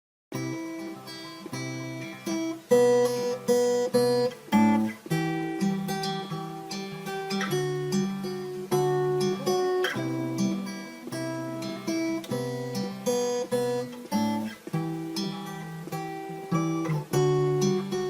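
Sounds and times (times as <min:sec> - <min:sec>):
acoustic guitar slow chords: 0:00.3 - 0:18.0.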